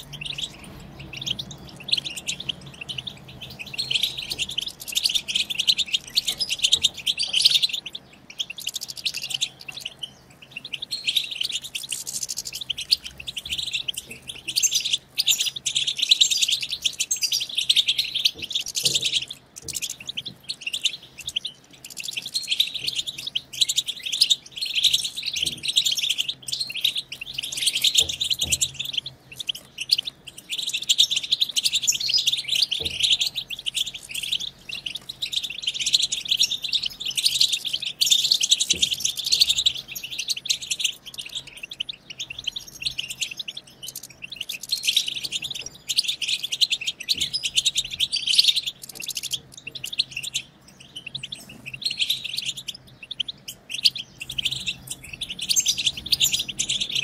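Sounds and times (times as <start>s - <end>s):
finch twittering: 0.0s - 57.0s.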